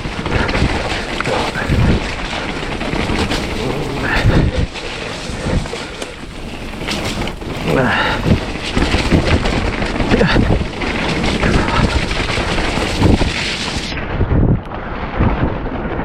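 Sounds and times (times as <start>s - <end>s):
bike rattling over rocks: 0.0s - 14.0s.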